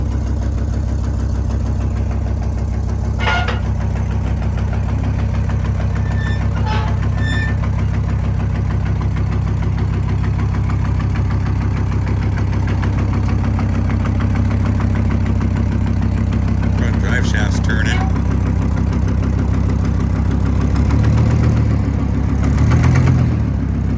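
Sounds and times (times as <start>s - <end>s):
truck engine idling: 0.0s - 23.9s.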